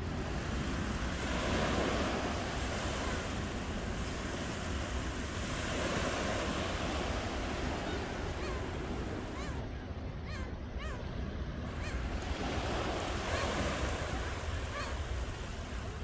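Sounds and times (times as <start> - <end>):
waves washing onto shore: 0.0 - 9.4, 11.6 - 16.0.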